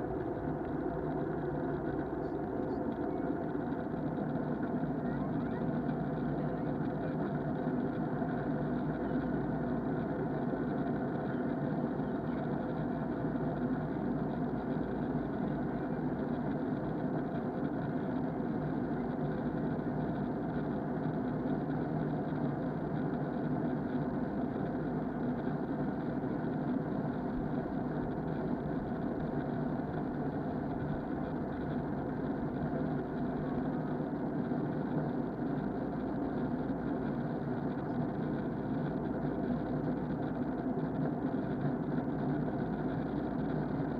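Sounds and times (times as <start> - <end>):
airliner cabin engine drone: 0.0 - 43.9.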